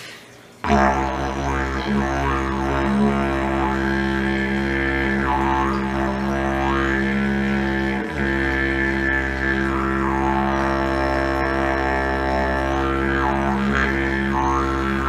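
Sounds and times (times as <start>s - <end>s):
didgeridoo drone: 0.6s - 15.0s.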